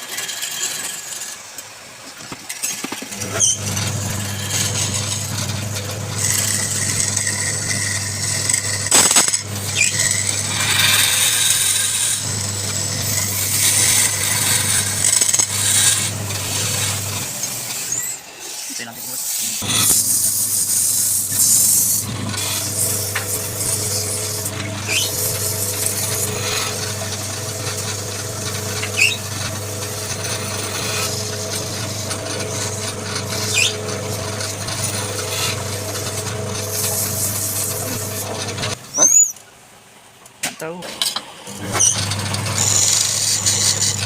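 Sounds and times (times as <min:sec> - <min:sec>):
tool scraping spinning wood: 0:00.0 - 0:39.3, 0:41.5 - 0:44.0
wood lathe motor hum: 0:03.1 - 0:18.6, 0:19.6 - 0:38.8, 0:41.5 - 0:44.0.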